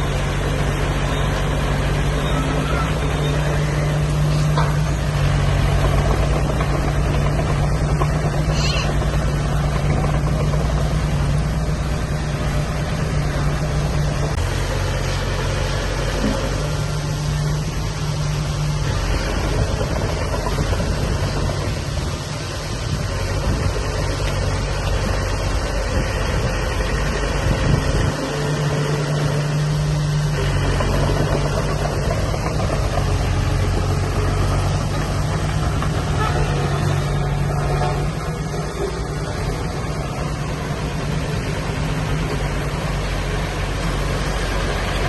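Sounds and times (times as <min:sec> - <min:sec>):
heavy diesel engine humming: 0:00.0 - 0:45.0.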